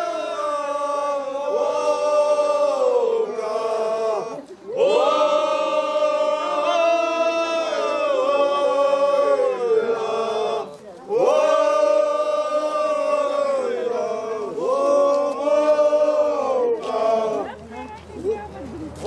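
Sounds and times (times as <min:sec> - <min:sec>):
group chanting in unison: 0:00.0 - 0:17.6.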